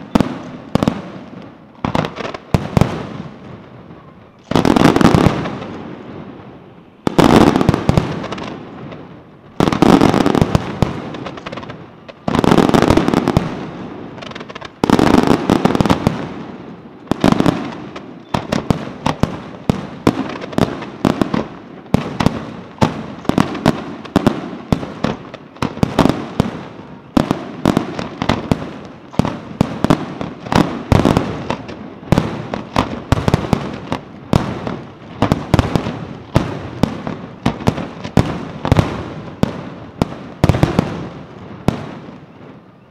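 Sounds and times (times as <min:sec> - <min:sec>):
rapid firework bangs: 0:00.0 - 0:03.7, 0:04.5 - 0:06.3, 0:07.0 - 0:42.1
firework shells booming: 0:00.0 - 0:42.6.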